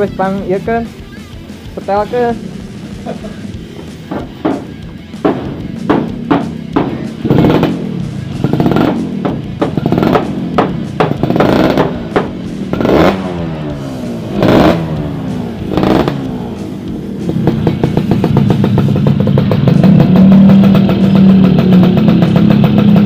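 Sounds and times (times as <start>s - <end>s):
motorcycle engine revving: 0.0s - 23.0s
music: 0.0s - 23.0s.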